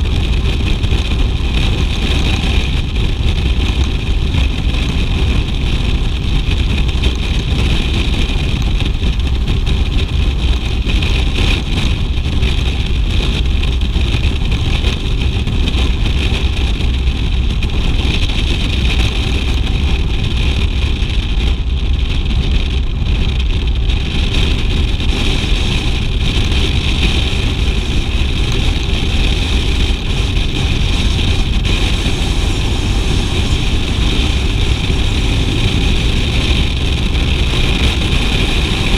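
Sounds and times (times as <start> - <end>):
motorcycle engine rumble: 0.0 - 38.9
wind and road noise: 0.0 - 38.9.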